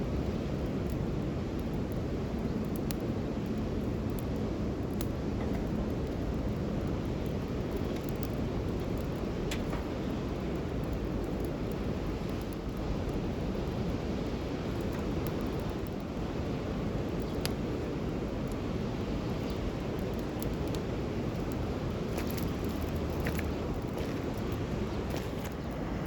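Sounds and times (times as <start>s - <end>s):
campfire crackling and popping: 0.0s - 26.0s
fire low rushing noise: 3.2s - 26.0s.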